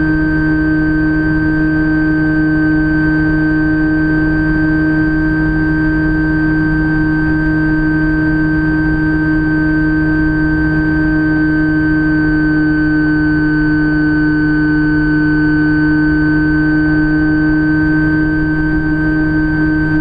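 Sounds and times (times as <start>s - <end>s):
electric motor propeller whine: 0.0s - 20.0s.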